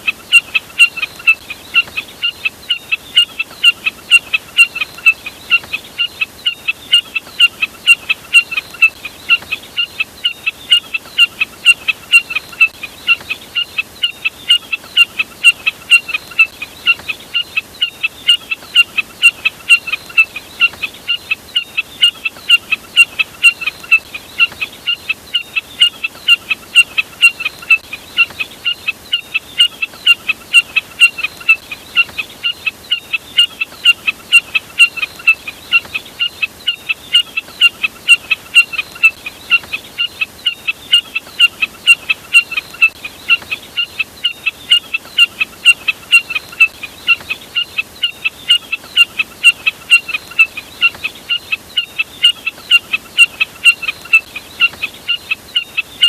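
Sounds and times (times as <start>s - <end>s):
snipe calling: 0.0s - 56.0s.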